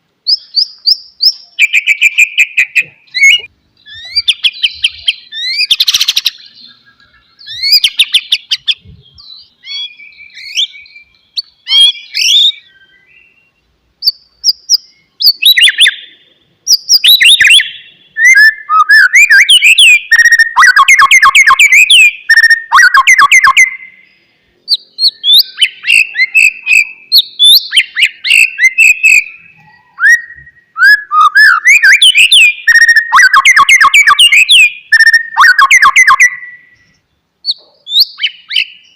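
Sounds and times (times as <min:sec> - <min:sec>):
bird singing whistled phrases: 0:00.2 - 0:38.9.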